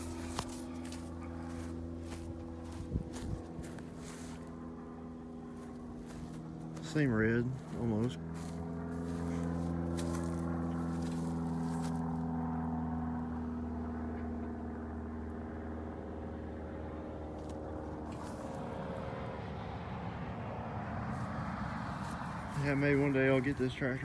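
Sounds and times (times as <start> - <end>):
passing vehicle engine droning: 0.0 - 24.0.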